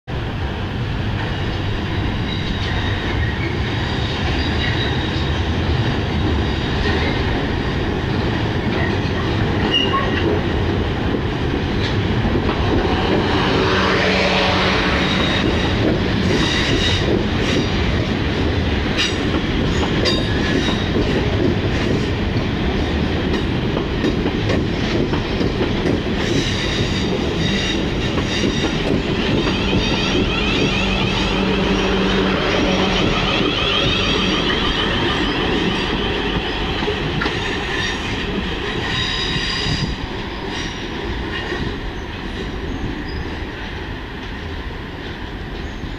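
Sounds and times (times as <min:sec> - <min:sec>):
train rumbling past: 0:00.1 - 0:45.9.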